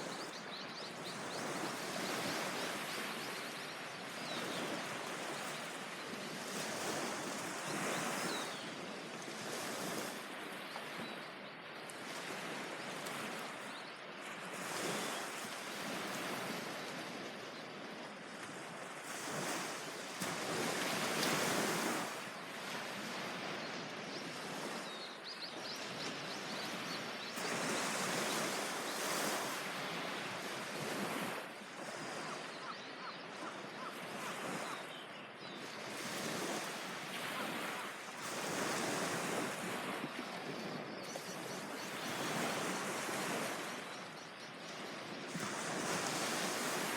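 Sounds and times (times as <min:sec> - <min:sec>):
sea waves breaking: 0:00.0 - 0:11.2, 0:12.0 - 0:35.0, 0:35.7 - 0:46.9.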